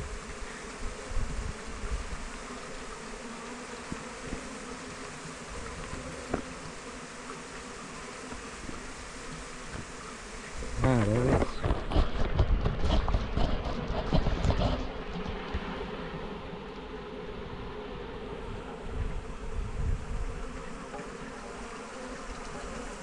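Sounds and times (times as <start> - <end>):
bees humming: 0.0 - 23.0.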